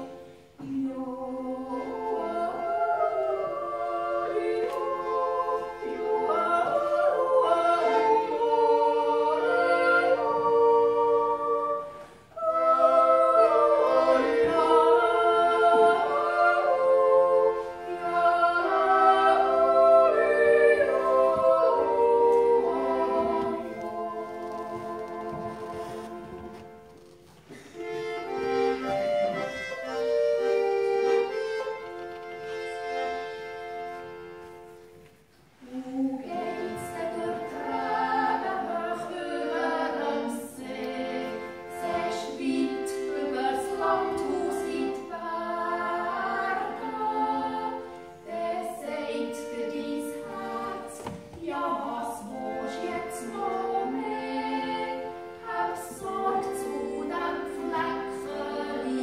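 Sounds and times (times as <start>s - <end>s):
women singing duet: 0.0s - 26.7s, 35.6s - 59.0s
button accordion: 0.0s - 35.1s, 35.9s - 59.0s.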